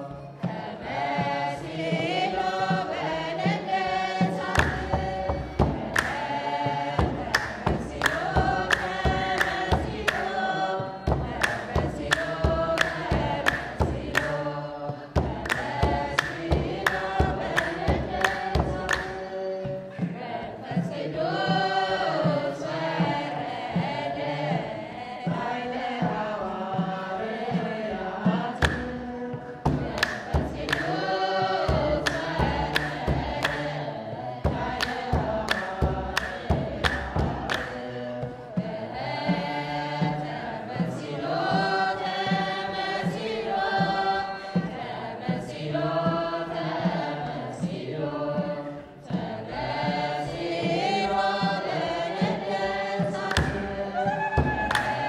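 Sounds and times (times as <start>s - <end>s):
choir singing a hymn: 0.0s - 55.0s
steady percussive beat: 0.0s - 55.0s.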